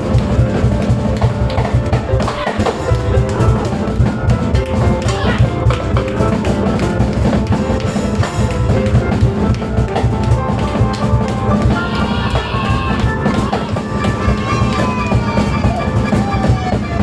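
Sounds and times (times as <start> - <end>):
fast drum beat: 0.0 - 17.0
piano playing: 0.0 - 17.0.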